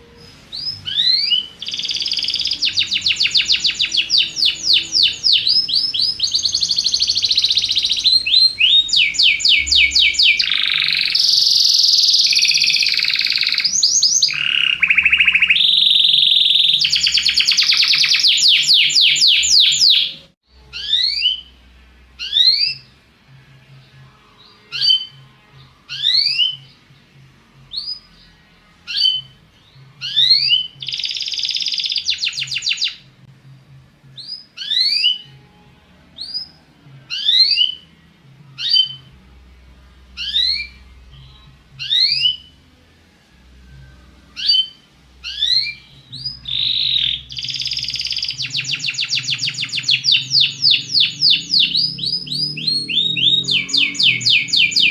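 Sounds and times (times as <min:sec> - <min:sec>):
canary trilling: 0:00.0 - 0:23.0, 0:24.3 - 0:26.8, 0:27.6 - 0:33.2, 0:34.2 - 0:37.9, 0:38.5 - 0:39.2, 0:40.0 - 0:42.8, 0:43.7 - 0:54.9
canary chirps: 0:00.0 - 0:33.2, 0:34.1 - 0:39.2, 0:40.0 - 0:42.8, 0:43.5 - 0:54.9.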